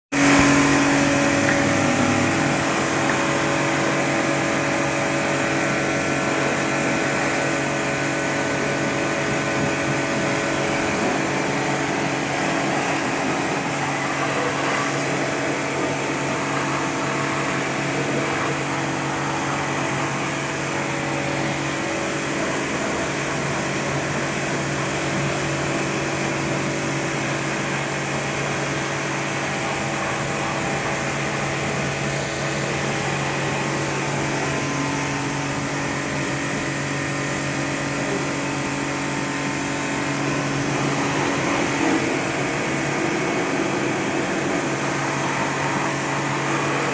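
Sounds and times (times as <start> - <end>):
pressure washer pump humming: 0.1 - 46.9
water spray hissing: 0.2 - 46.9.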